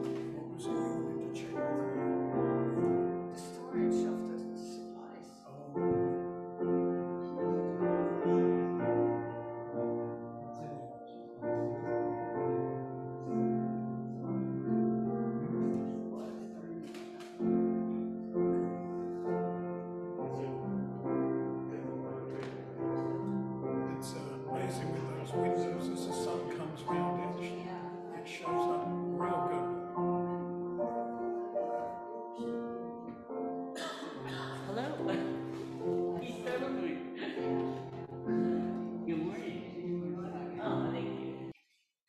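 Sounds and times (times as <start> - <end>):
slow gentle piano chords: 0.0 - 41.6.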